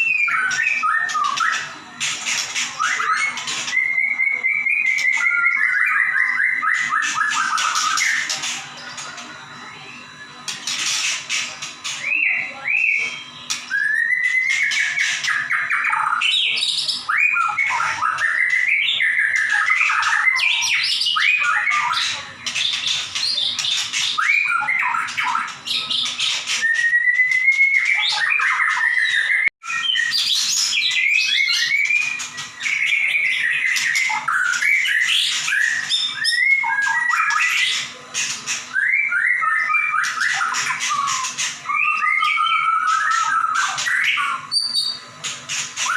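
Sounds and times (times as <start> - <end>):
bird singing whistled phrases: 0.0 - 10.5, 11.8 - 38.0, 38.7 - 45.9.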